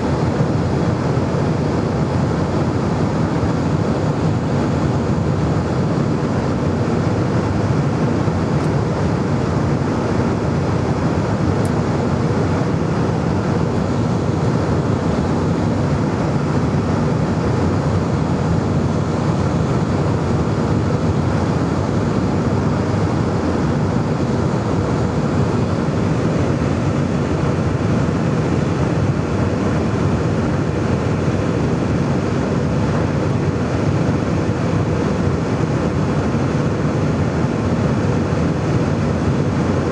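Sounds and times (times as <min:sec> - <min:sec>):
jet engine and airflow rush: 0:00.0 - 0:39.9.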